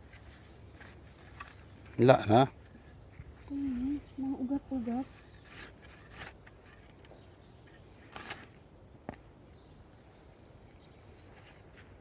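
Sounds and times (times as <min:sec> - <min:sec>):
soil rustling and scraping: 0:00.0 - 0:08.7, 0:10.6 - 0:12.0.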